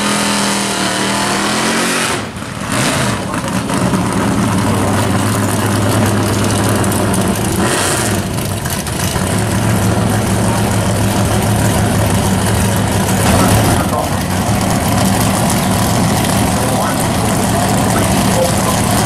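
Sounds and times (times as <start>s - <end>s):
drag car engines idling: 2.2s - 19.0s.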